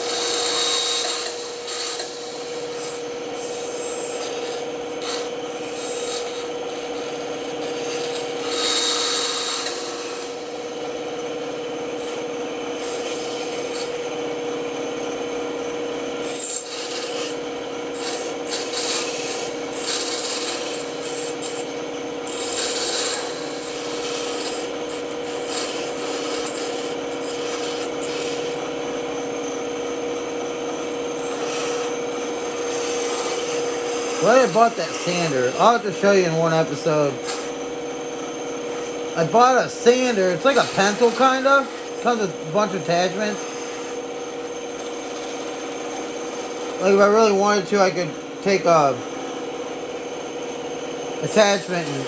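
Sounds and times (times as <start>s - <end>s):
saw blade cutting wood: 0.0s - 10.9s, 12.0s - 14.2s, 16.1s - 49.8s, 51.2s - 52.0s
band saw humming: 0.0s - 52.0s.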